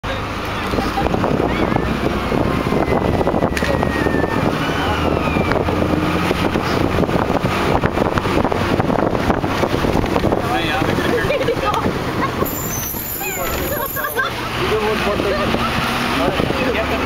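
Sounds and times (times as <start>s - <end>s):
road and wind noise: 0.0s - 17.0s
vehicle engine rumble: 0.0s - 17.0s.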